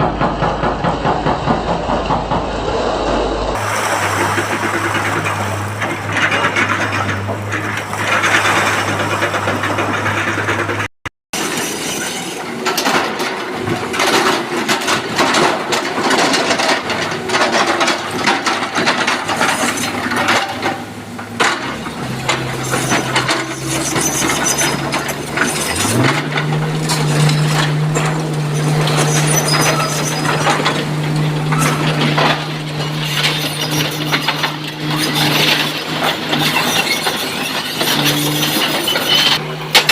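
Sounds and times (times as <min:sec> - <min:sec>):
excavator diesel engine running: 0:00.0 - 0:39.9
rocks clattering against steel bucket: 0:04.0 - 0:39.9.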